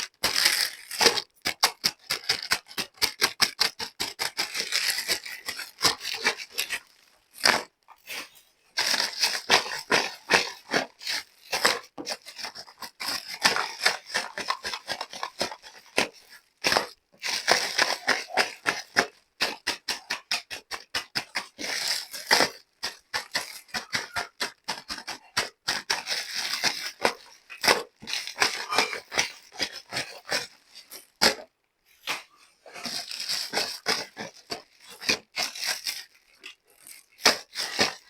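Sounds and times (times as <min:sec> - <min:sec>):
plastic toy pieces crinkling: 0:00.0 - 0:07.8, 0:08.8 - 0:38.0.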